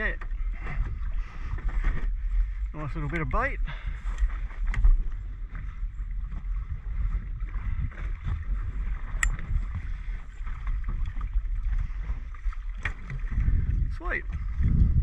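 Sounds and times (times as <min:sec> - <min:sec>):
water sloshing around boat: 0:00.0 - 0:15.0
wind rumbling on microphone: 0:00.0 - 0:15.0.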